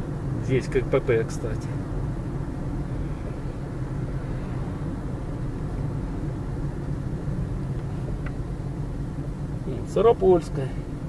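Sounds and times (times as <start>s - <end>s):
car interior engine and tyre drone: 0.0s - 11.0s.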